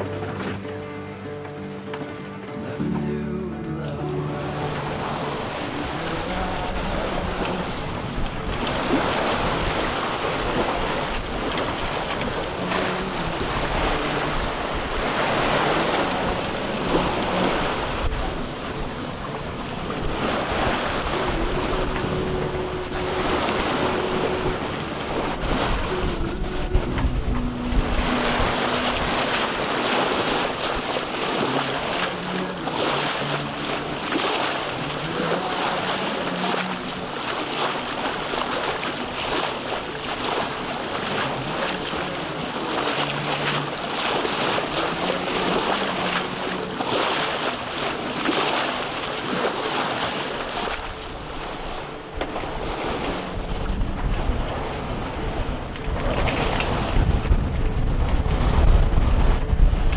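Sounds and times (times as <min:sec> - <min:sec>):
water rushing and splashing: 0:00.0 - 0:59.9
wind buffeting microphone: 0:04.3 - 0:59.9.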